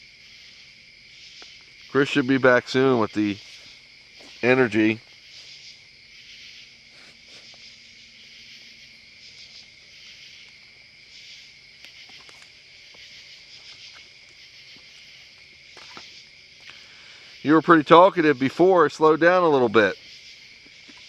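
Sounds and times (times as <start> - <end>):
crickets and insects chorus: 0.0 - 21.0.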